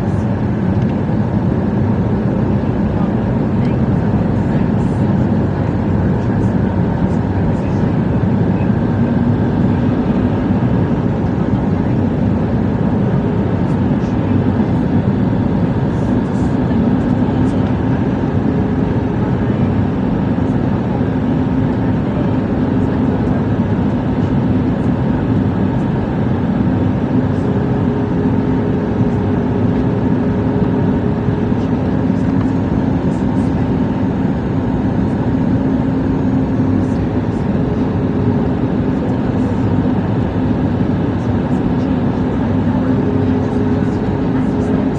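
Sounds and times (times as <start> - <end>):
aircraft cabin rumble: 0.0 - 44.9.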